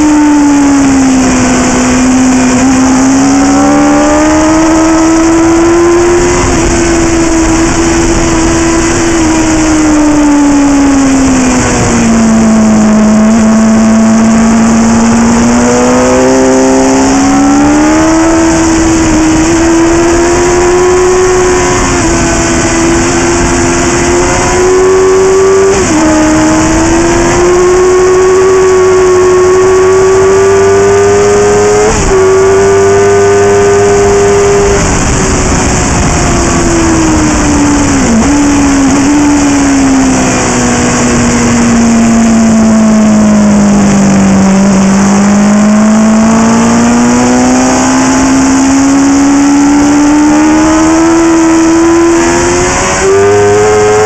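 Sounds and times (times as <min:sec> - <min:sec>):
motorcycle engine revving: 0:00.0 - 0:54.0
wind rush: 0:00.0 - 0:54.0.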